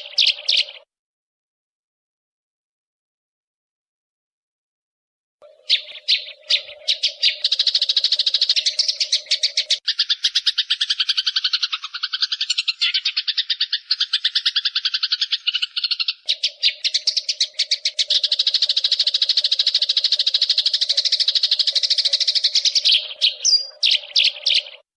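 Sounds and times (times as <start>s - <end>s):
sparrows chattering: 0.0s - 0.9s, 5.4s - 24.9s.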